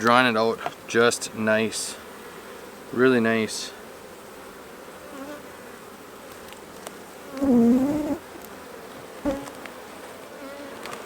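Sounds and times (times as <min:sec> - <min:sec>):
honeybees buzzing: 0:00.0 - 0:11.0
bee flying close by: 0:01.9 - 0:11.0.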